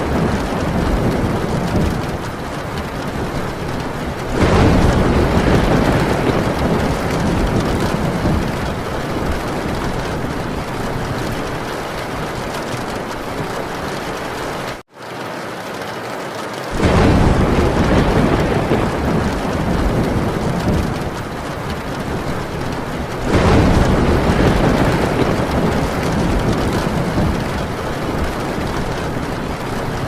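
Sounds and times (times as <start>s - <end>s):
thunder rumbling: 0.0s - 14.8s, 16.7s - 30.0s
heavy rain on a tin roof: 0.0s - 30.0s.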